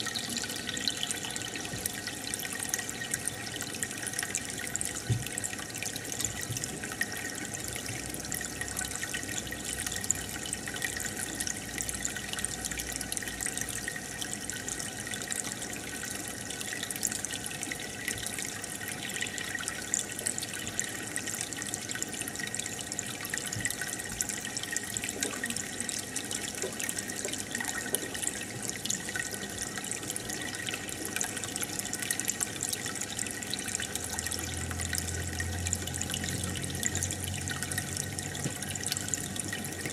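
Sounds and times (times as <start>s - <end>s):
water trickling in aquarium: 0.0s - 39.9s.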